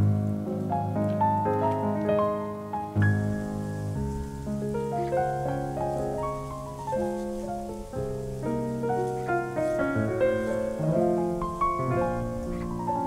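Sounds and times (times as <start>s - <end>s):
piano melody with chords: 0.0s - 13.0s.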